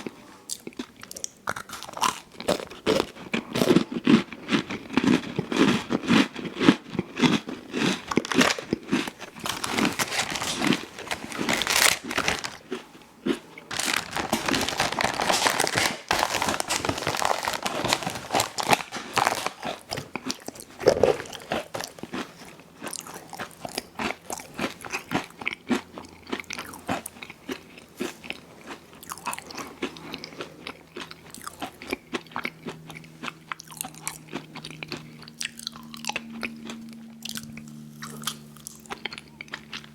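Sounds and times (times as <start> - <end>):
soft chewing: 0.0 - 14.3, 16.6 - 39.9
ice cream sandwich crunching: 0.0 - 39.9.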